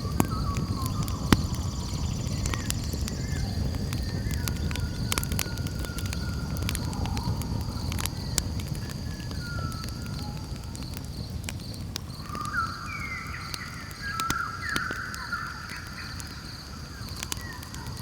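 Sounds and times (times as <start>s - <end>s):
campfire crackling and popping: 0.0s - 18.0s
night insects trilling: 0.0s - 18.0s.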